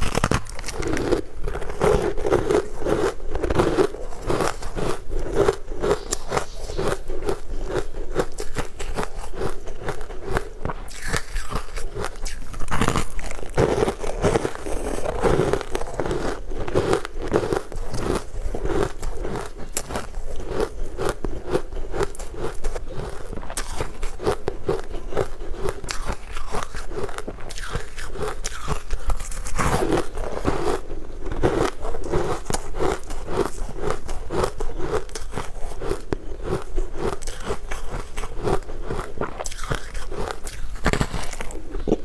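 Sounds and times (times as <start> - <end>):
chewing ice crunches: 0.0 - 42.0.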